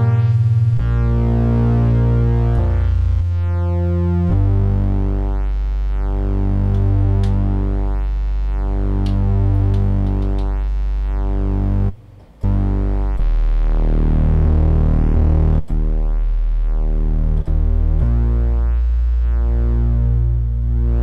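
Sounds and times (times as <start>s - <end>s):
synthesizer pad chords: 0.0s - 21.0s.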